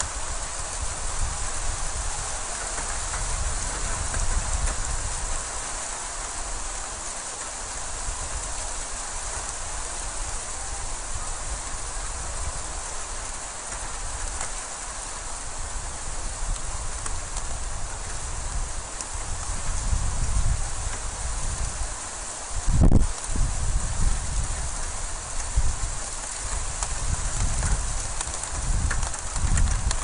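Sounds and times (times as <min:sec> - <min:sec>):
hail striking street and rooftops: 0:00.0 - 0:30.0.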